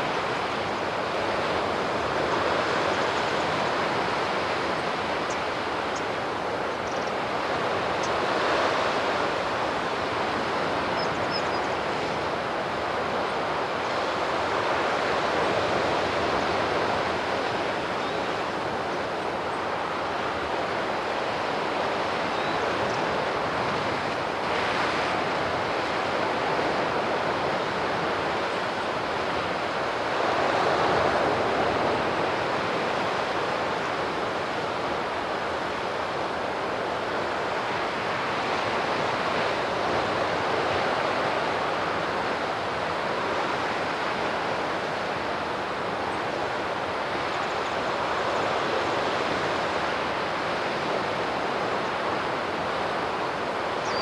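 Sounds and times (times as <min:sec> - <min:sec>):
sea surf washing ashore: 0:00.0 - 0:54.0.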